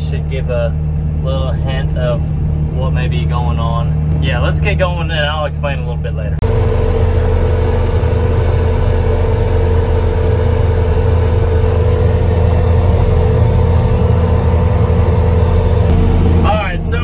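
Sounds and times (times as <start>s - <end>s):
diesel engine running: 0.0s - 17.0s
steady whine: 0.0s - 17.0s.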